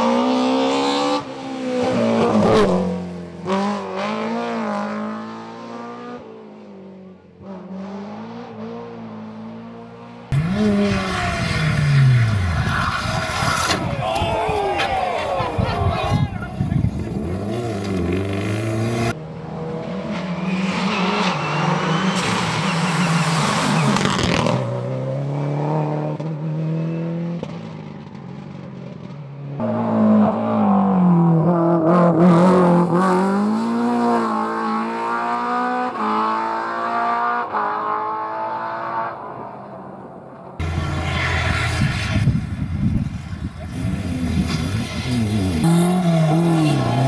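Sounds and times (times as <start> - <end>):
rally car engines revving and passing: 0.0 - 47.0.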